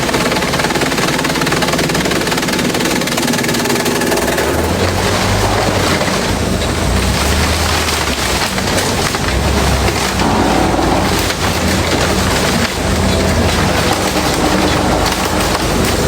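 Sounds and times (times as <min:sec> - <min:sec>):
bamboo being shredded: 0:00.0 - 0:16.0
machine low hum: 0:00.0 - 0:16.0.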